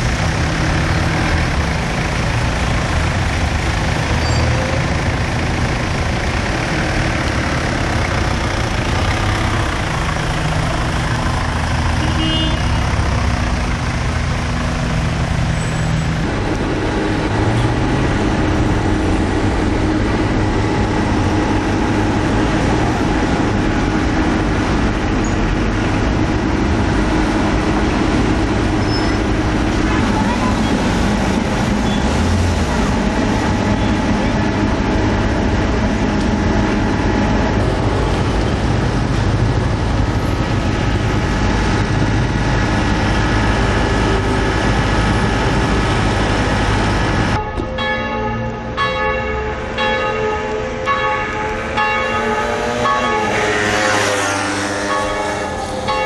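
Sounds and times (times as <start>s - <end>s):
diesel truck engines idling: 0.0s - 54.2s, 54.9s - 56.0s.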